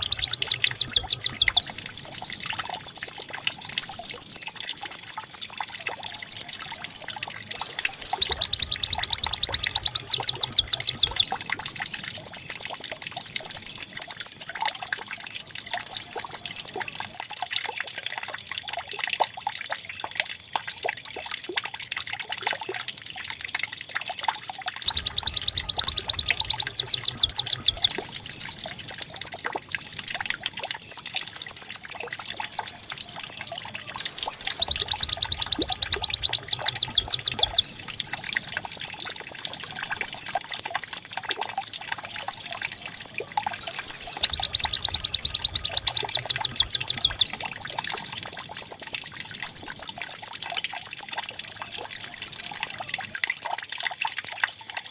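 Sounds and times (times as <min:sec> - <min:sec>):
bird trilling song: 0:00.0 - 0:16.8, 0:24.9 - 0:52.9.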